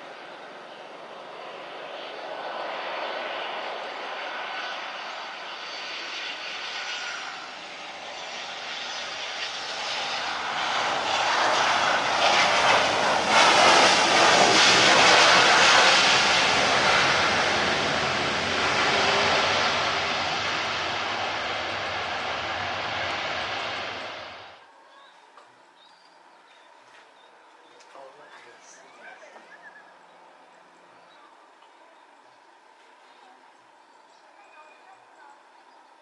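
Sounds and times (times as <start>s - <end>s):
airliner engines: 0.0s - 24.8s, 25.4s - 36.0s.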